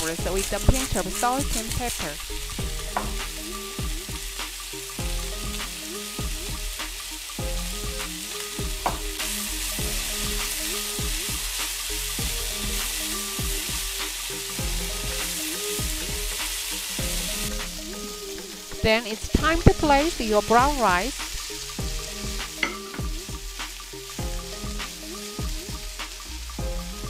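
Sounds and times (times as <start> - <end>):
background music: 0.0 - 27.0
food sizzling in a frying pan: 0.0 - 27.0.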